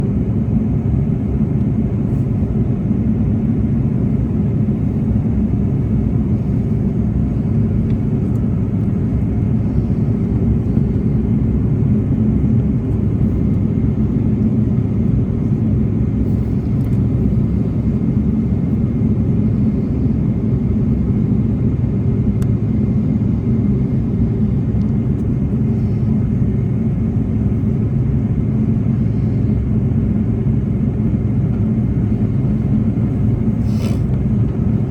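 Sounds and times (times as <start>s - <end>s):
airplane cabin rumble: 0.0s - 34.9s.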